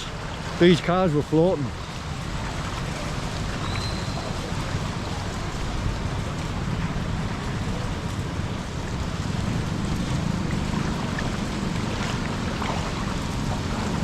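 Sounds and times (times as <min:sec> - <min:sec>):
flood water rushing: 0:00.0 - 0:14.0
low rumble: 0:01.8 - 0:14.0.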